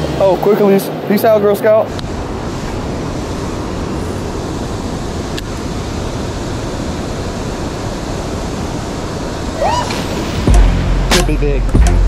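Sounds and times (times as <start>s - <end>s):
river water rushing over rocks: 0.0s - 10.6s.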